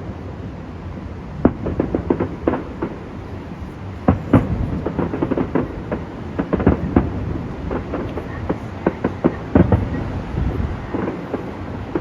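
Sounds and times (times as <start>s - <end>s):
low rumble: 0.7s - 12.0s
fireworks bangs and crackles: 1.3s - 12.0s.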